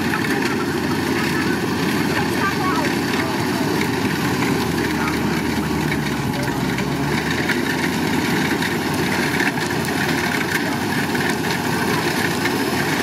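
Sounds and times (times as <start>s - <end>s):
combine harvester rumbling: 0.0s - 13.0s.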